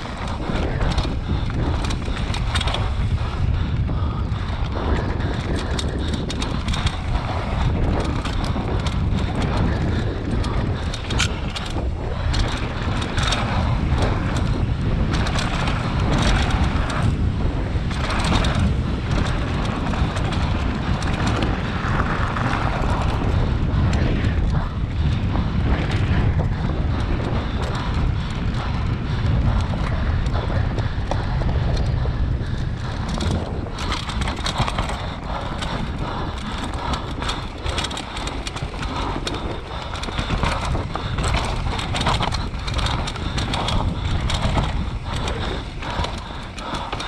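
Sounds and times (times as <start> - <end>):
motorcycle engine running: 0.0 - 47.0
wind buffeting microphone: 0.0 - 47.0.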